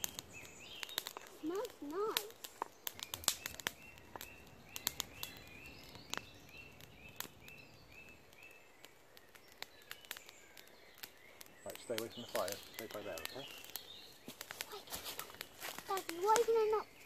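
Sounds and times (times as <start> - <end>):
campfire crackling: 0.0 - 17.0
twigs snapping: 0.0 - 17.0.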